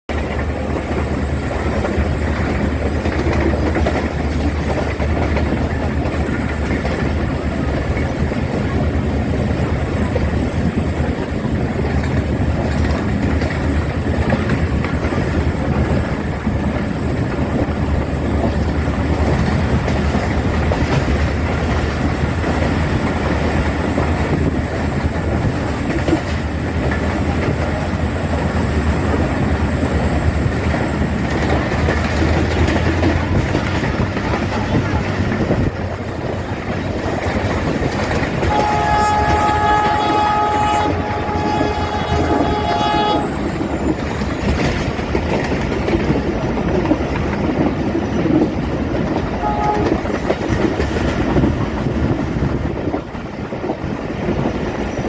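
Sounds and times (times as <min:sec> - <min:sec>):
locomotive engine rumble: 0:00.1 - 0:55.0
train wheels clicking over rail joints: 0:00.1 - 0:55.0.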